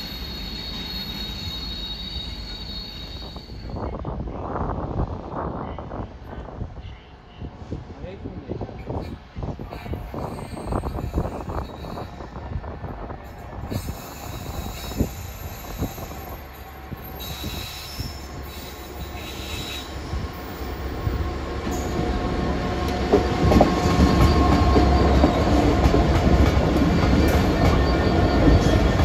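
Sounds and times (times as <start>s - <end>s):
diesel locomotive engines rumbling: 0.0s - 29.0s.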